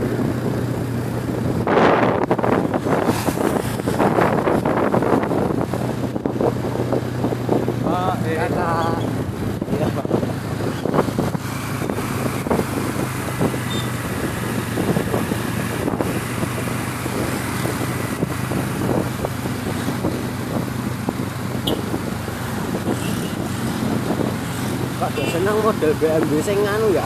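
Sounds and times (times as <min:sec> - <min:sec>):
road noise: 0:00.0 - 0:27.0
scooter engine humming: 0:00.0 - 0:27.0
wind buffeting microphone: 0:00.0 - 0:27.0.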